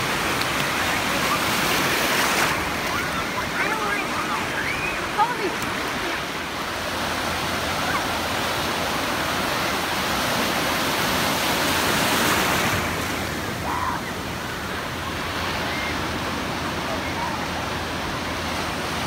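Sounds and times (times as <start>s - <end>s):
ocean surf breaking waves: 0.0s - 19.0s.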